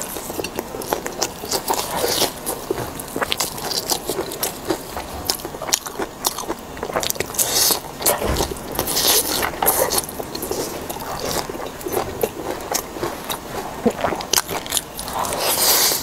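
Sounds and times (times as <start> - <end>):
crunching crispy food: 0.0 - 16.0.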